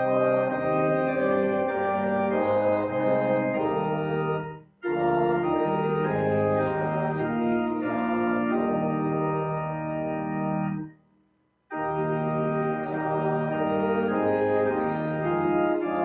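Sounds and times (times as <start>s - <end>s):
church organ playing a hymn: 0.0s - 10.9s, 11.7s - 16.0s.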